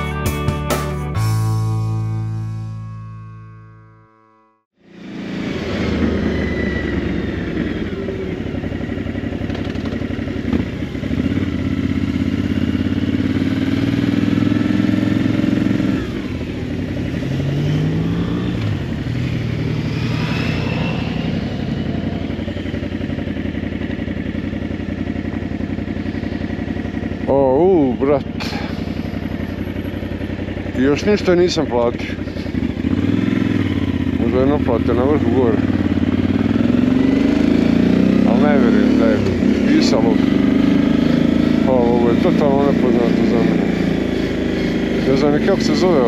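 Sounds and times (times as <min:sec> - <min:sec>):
motorcycle engine running: 0:04.8 - 0:46.0.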